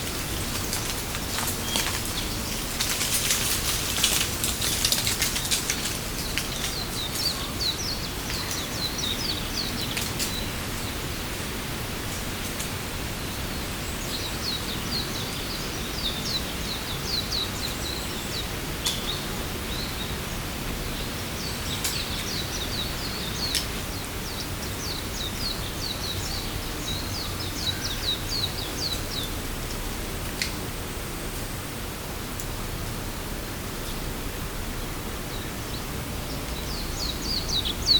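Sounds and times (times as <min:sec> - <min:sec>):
steady rushing background noise: 0:00.0 - 0:37.9.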